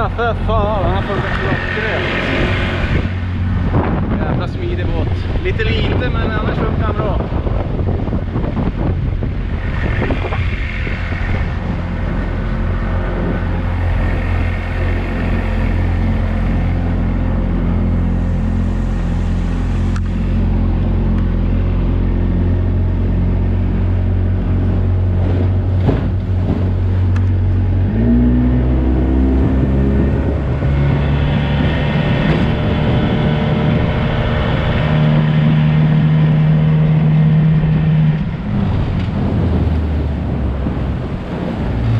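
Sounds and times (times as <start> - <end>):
outboard motor running: 0.0 - 41.9
water rushing: 0.0 - 41.9
wind noise: 0.0 - 41.9.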